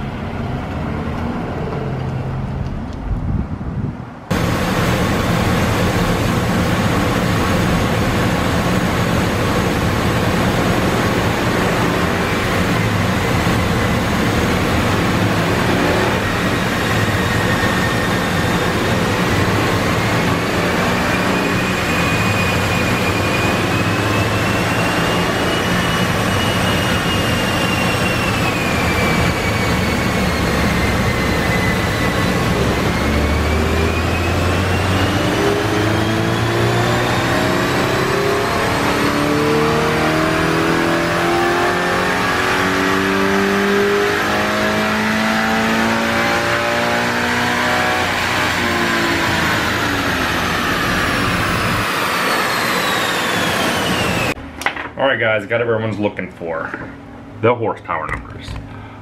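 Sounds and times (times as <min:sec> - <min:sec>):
high whine: 0:00.0 - 0:59.0
car engine revving on dyno: 0:04.3 - 0:54.4.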